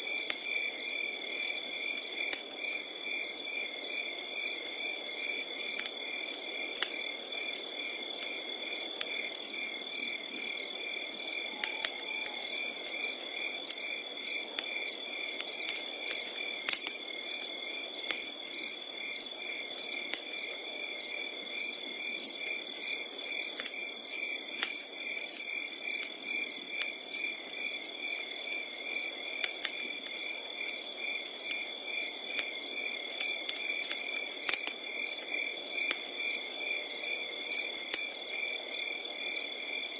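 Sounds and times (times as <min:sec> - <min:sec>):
campfire popping and crackling: 0:00.0 - 0:39.9
crickets chirping: 0:00.2 - 0:39.9.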